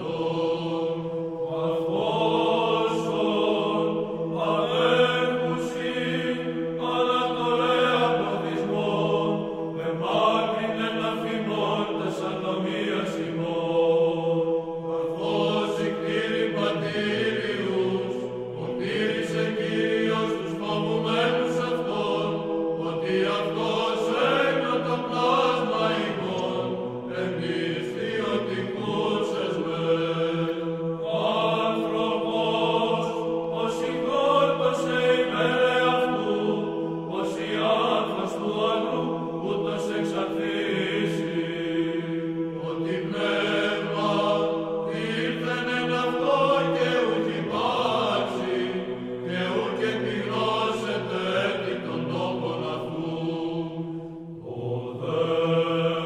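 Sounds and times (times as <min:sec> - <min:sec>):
voices chanting slow melody: 0:00.0 - 0:56.0.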